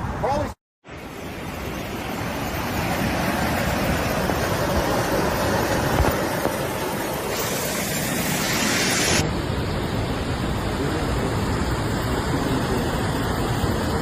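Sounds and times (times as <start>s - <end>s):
floodwater rushing: 1.0s - 14.0s.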